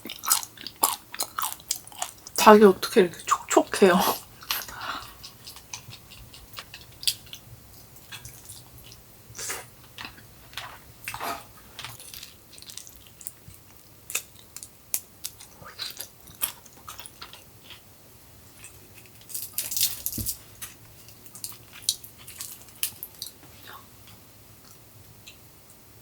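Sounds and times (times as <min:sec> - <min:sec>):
chewing crispy chicken: 0:00.0 - 0:02.4, 0:04.3 - 0:17.9, 0:18.5 - 0:25.4.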